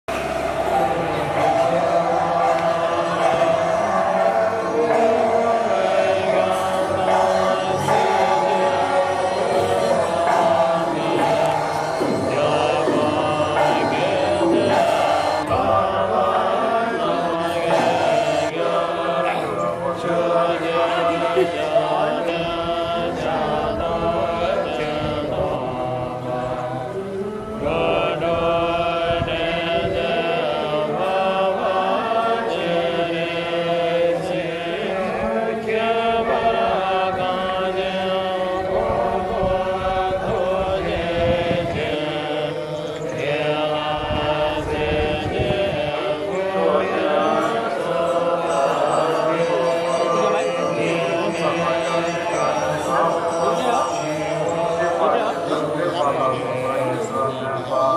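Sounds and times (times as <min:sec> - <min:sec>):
voice chanting melodically: 0:00.0 - 0:57.9.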